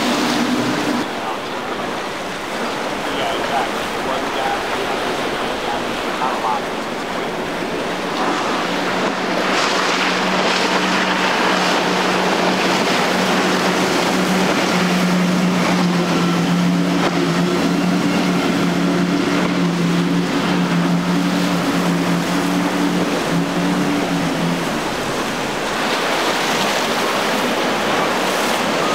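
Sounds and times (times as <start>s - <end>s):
hull spray and wake rushing: 0.0s - 28.9s
outboard engine drone: 0.0s - 28.9s.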